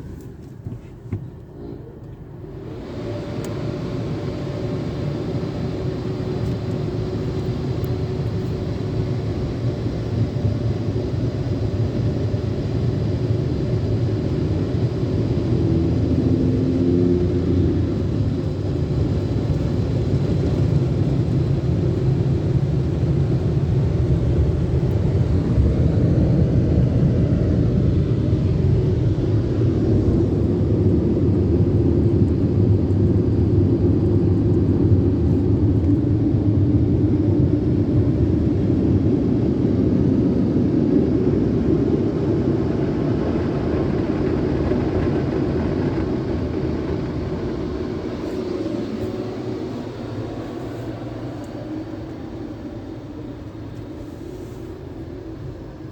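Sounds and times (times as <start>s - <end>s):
automatic car wash rushing rumble: 0.0s - 55.9s.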